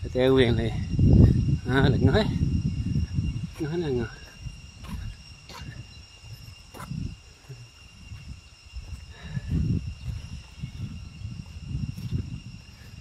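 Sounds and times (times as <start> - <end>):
insects droning: 0.0 - 13.0
low rumbling noise: 0.0 - 13.0.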